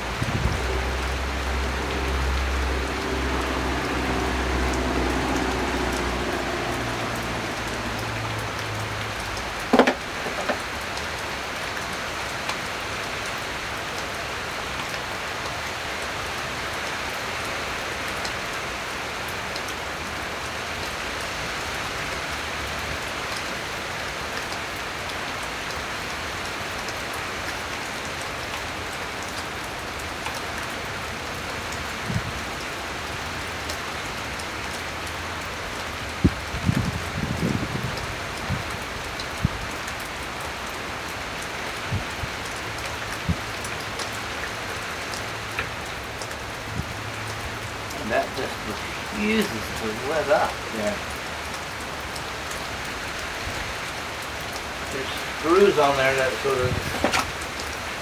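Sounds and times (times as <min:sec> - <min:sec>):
rain-like hiss: 0:00.0 - 0:58.0.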